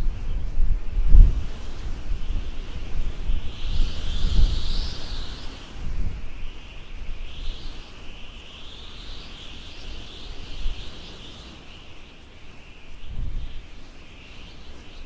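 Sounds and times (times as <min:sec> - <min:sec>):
chirping chorus of wildlife: 0:00.0 - 0:15.0
wind buffeting microphone: 0:00.0 - 0:15.0.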